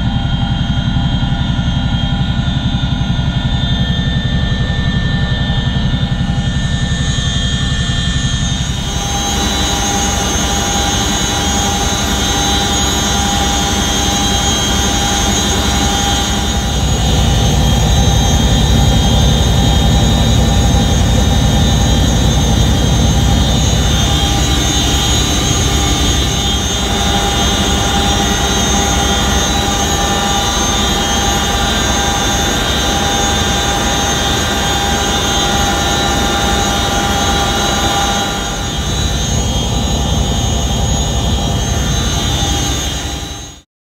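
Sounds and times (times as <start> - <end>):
helicopter turbine whine: 0.0 - 43.7
rotor drone: 0.0 - 43.7.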